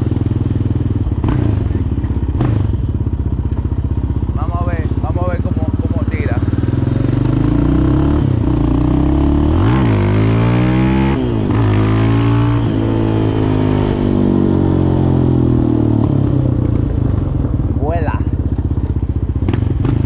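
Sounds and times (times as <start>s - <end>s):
quad bike engine accelerating: 0.0s - 20.0s.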